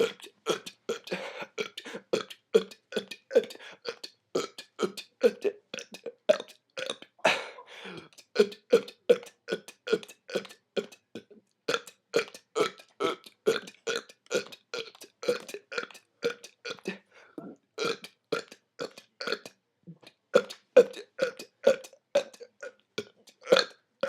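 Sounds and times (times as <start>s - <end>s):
man burping rapidly: 0.0s - 11.0s, 11.7s - 19.5s, 20.4s - 23.8s.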